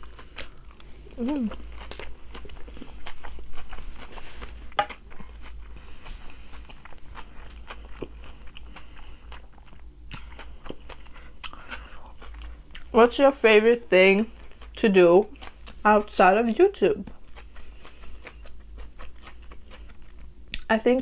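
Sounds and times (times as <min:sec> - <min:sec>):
person chewing crunchy food: 0:00.0 - 0:13.0, 0:14.2 - 0:16.0, 0:17.0 - 0:20.7.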